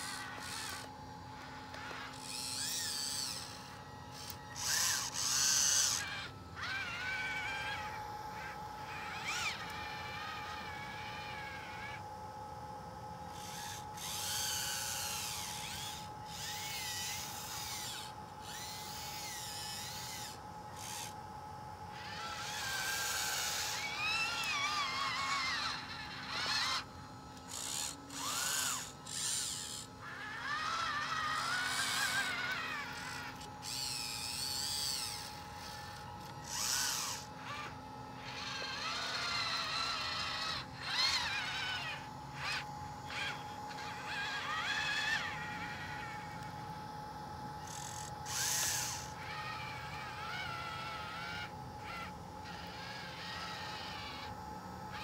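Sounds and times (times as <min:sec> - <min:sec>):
steady hum: 0:00.0 - 0:55.0
toy electric motors whining: 0:00.0 - 0:55.0.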